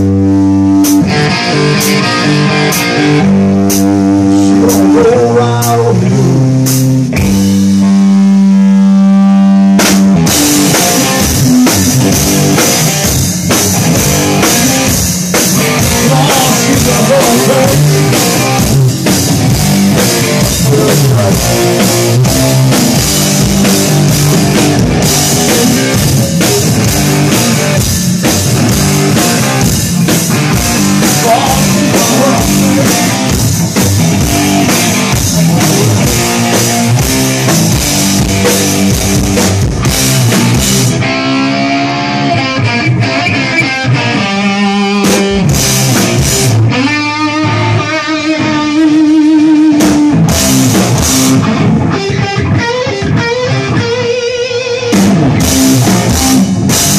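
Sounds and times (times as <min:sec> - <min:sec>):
drum kit: 0:00.0 - 0:56.9
electric guitar: 0:00.0 - 0:56.9.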